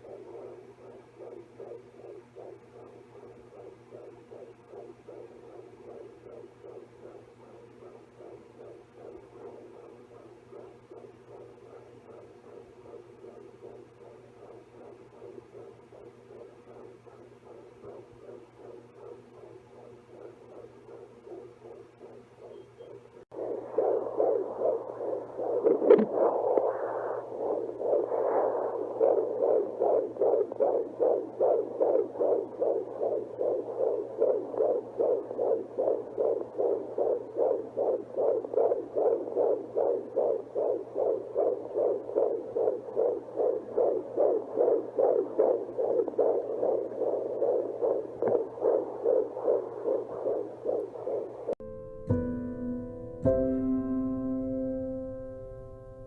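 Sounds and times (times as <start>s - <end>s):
fetal heartbeat pulsing whoosh: 0.0s - 52.4s
steady low hum: 0.0s - 56.0s.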